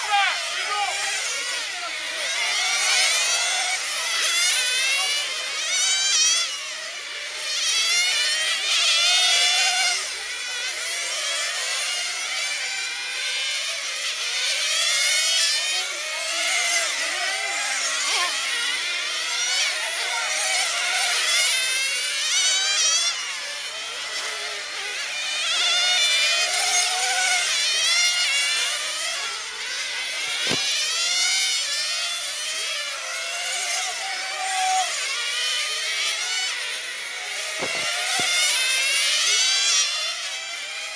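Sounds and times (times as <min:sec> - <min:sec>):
model car engines revving high: 0:00.0 - 0:40.9.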